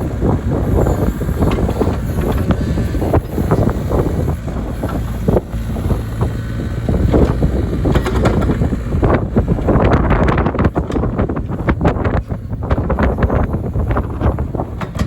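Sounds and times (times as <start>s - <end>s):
excavator diesel engine running: 0.0s - 15.0s
wind buffeting microphone: 0.0s - 15.0s.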